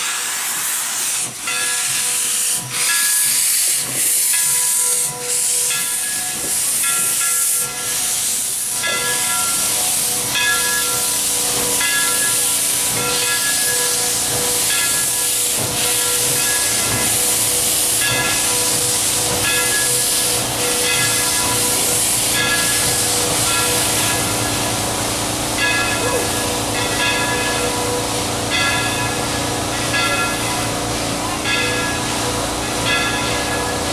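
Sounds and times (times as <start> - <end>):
steam locomotive hissing: 0.0 - 33.9
rhythmic locomotive beat: 1.2 - 33.9.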